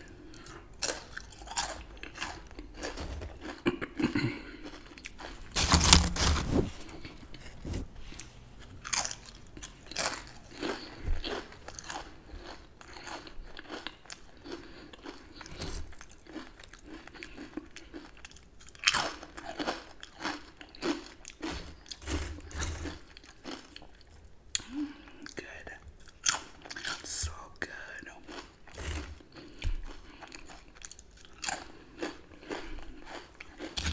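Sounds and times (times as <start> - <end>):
chips crunching: 0.4 - 24.0, 28.3 - 33.9.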